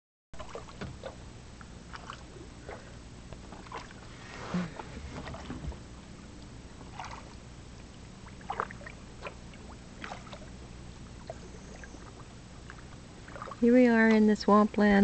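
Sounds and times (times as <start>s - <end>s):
kayak paddle splashing: 0.4s - 1.2s, 1.8s - 6.0s, 6.6s - 13.8s.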